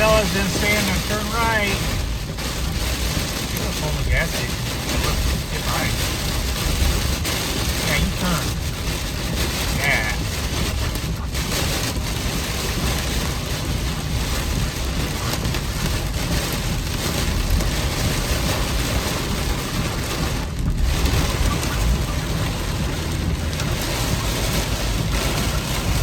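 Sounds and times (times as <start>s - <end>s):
heavy rain on car roof: 0.0s - 26.0s.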